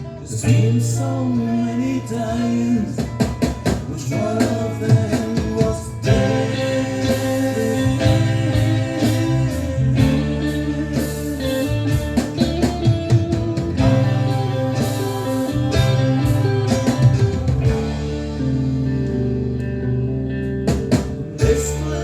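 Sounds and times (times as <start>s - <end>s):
bass guitar: 0.0s - 22.0s
electric guitar: 0.0s - 22.0s
drum kit with cymbal hits: 2.8s - 19.8s, 20.4s - 22.0s.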